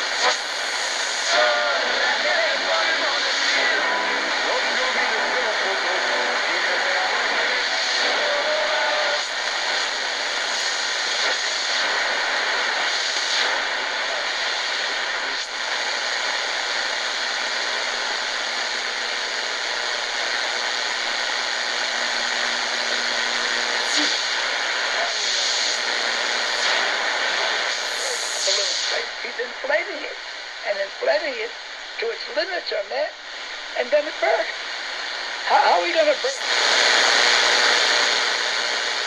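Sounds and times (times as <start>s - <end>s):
radio static hiss: 0.0s - 39.0s.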